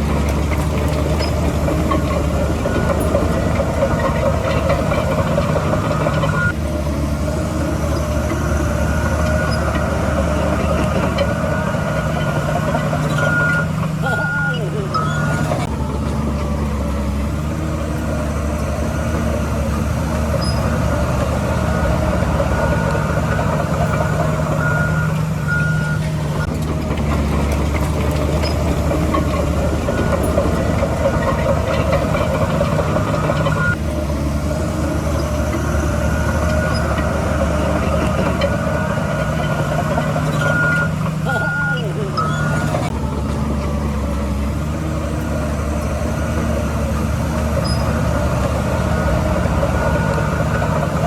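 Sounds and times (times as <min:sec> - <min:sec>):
diesel machinery running: 0:00.0 - 0:51.0
reversing alarm beeping: 0:01.0 - 0:06.6, 0:07.9 - 0:15.7, 0:18.6 - 0:26.6, 0:27.3 - 0:33.8, 0:34.8 - 0:43.0, 0:46.1 - 0:51.0.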